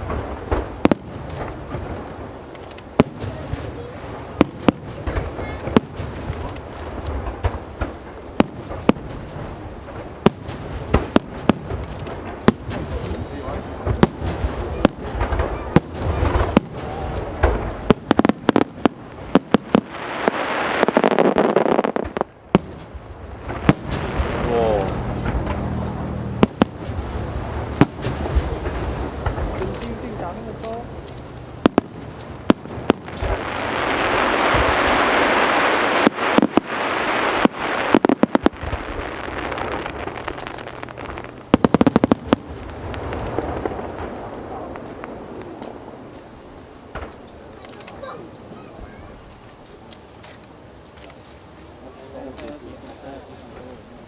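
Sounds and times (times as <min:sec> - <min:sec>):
fireworks bangs: 0:00.0 - 0:50.6
fireworks hissing crackle: 0:00.0 - 0:54.0.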